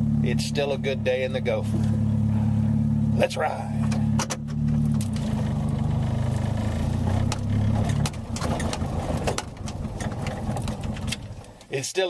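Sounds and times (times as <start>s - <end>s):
three-wheeler engine running: 0.0s - 11.7s.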